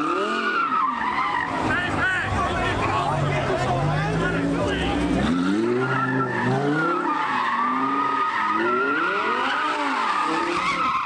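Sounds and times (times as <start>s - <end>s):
car engine revving: 0.0s - 11.0s
tyres squealing: 0.3s - 11.0s.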